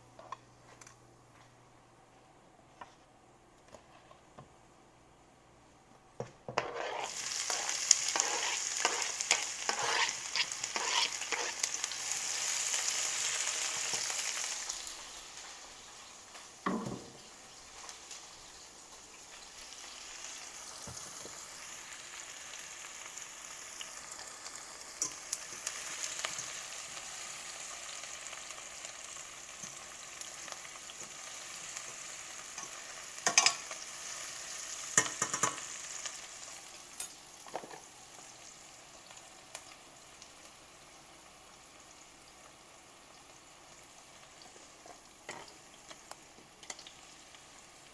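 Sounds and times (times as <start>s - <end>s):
vegetables sizzling in hot oil: 6.5s - 47.9s.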